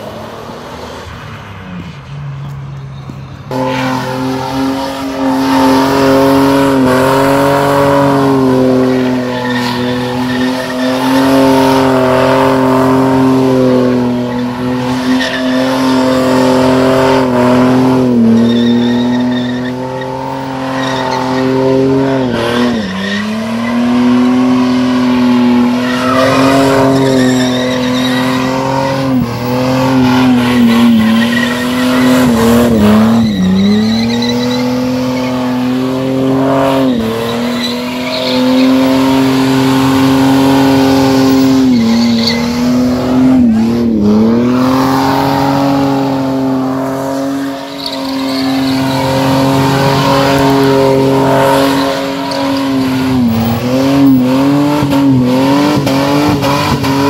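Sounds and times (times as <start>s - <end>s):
tyres squealing: 2.8s - 57.0s
car engine revving high: 3.5s - 57.0s.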